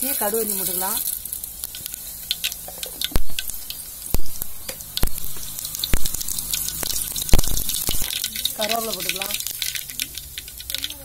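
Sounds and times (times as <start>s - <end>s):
mustard seeds popping: 0.0s - 11.0s
oil sizzling: 0.0s - 11.0s.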